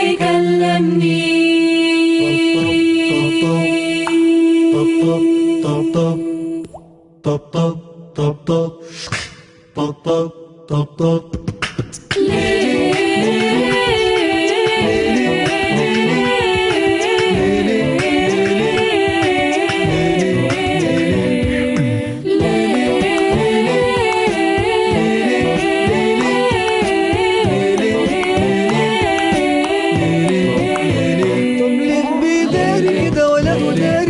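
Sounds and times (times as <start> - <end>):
steady vocal beat: 0.0 - 34.0
voices singing in harmony: 0.0 - 34.0.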